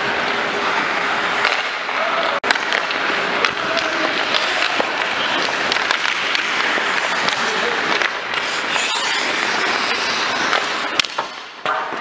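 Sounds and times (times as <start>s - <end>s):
hockey sticks and puck clacking: 0.0s - 12.0s
skates scraping across ice: 0.0s - 12.0s.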